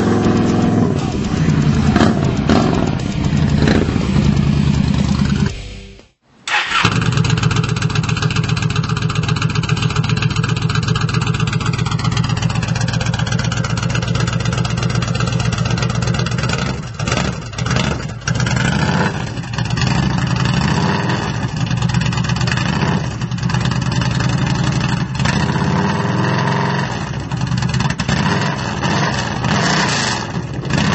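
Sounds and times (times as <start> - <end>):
motorcycle engine pulsing: 0.0 - 30.9.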